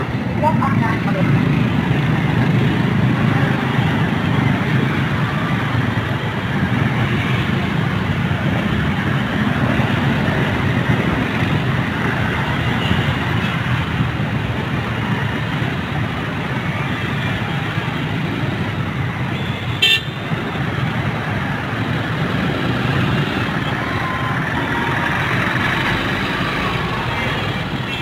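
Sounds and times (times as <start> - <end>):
heavy motorcycle and car traffic: 0.0 - 28.0.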